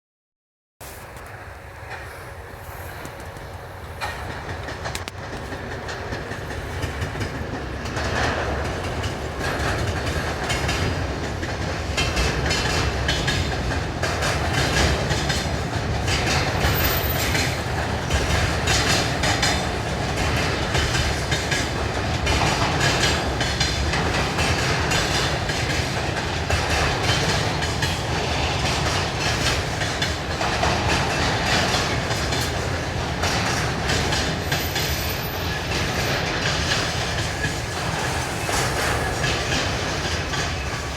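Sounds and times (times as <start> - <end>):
freight train rumbling: 0.8 - 40.9
wheels clattering over rail joints: 2.9 - 40.9.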